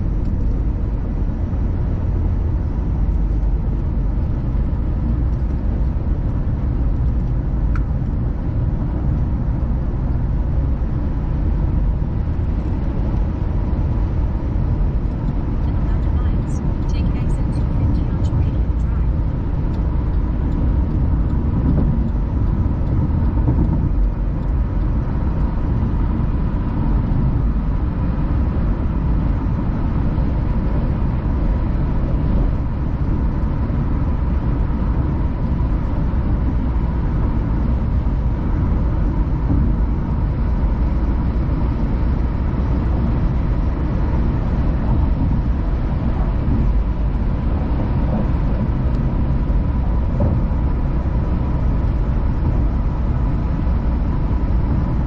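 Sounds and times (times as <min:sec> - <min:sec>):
car driving inside cabin: 0:00.0 - 0:55.0.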